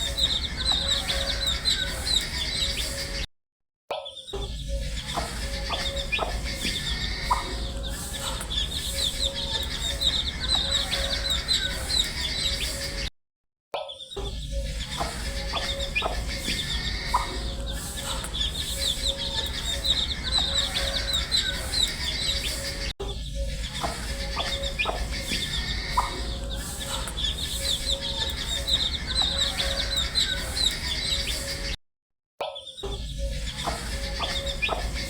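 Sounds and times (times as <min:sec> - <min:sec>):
baby chicks peeping: 0:00.0 - 0:03.2, 0:04.5 - 0:13.1, 0:14.4 - 0:31.8, 0:32.7 - 0:35.0.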